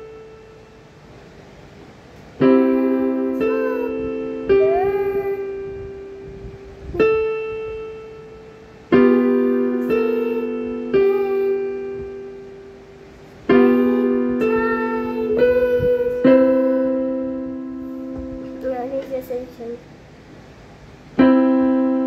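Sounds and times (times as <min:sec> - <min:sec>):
piano chords ringing: 0:00.0 - 0:22.0.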